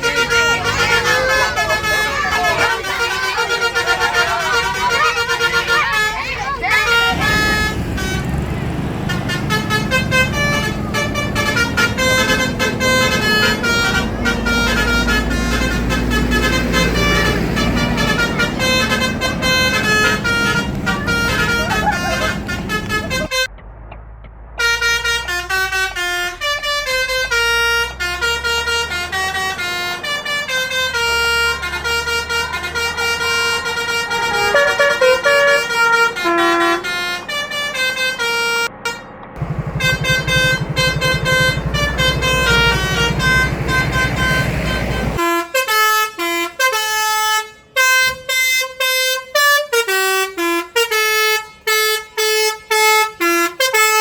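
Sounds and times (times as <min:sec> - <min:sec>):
musical bus horns: 0:00.0 - 0:23.8, 0:24.6 - 0:54.0
low engine rumble: 0:00.0 - 0:54.0.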